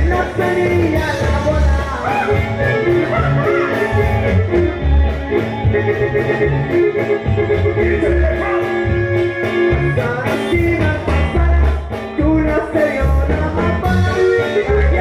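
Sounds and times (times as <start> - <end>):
low bass notes: 0.0 - 15.0
plucked guitar: 0.0 - 15.0.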